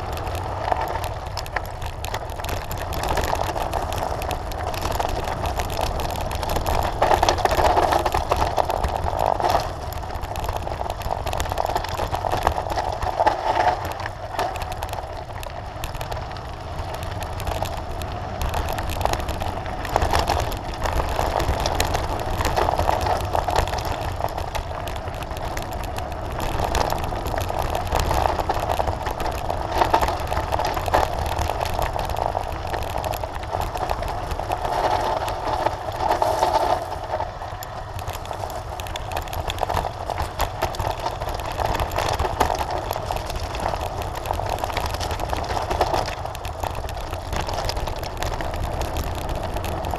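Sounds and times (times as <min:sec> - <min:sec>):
bike rattling over stones: 0:00.0 - 0:49.9
bike tyres on gravel: 0:00.0 - 0:49.9
wind rumble on microphone: 0:00.0 - 0:49.9.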